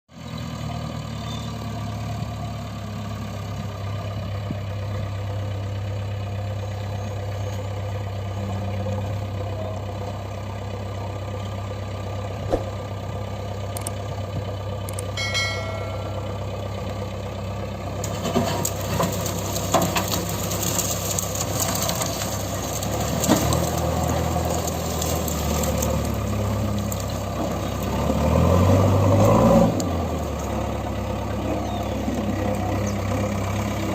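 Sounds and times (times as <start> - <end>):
diesel engine running: 0.1 - 33.9
engine rattling: 0.1 - 33.9.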